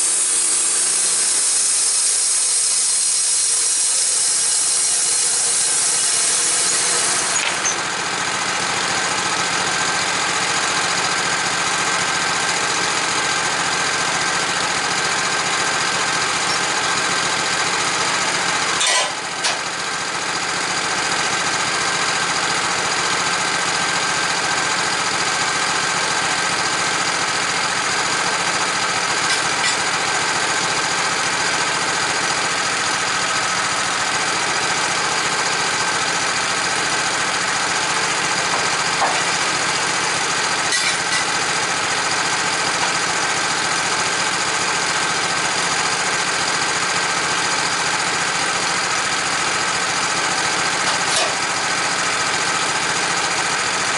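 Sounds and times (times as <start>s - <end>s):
motor-driven machine running: 0.0s - 53.9s.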